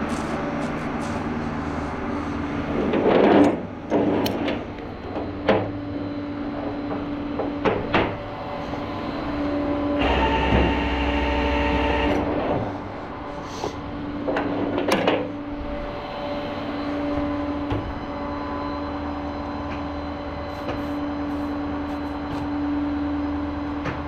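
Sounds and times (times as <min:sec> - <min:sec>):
deep drone with whine: 0:00.0 - 0:24.0.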